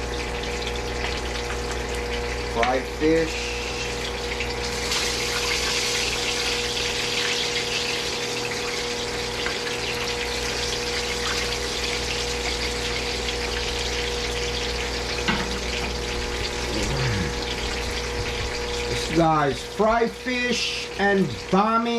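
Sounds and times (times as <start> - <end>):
constant hum: 0.0 - 21.9
food frying in hot oil: 0.0 - 21.9.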